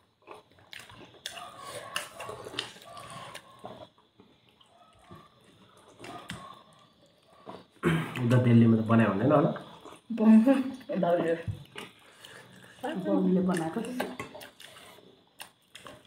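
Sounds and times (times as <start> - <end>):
soft chewing: 0.0 - 8.4, 9.5 - 16.0.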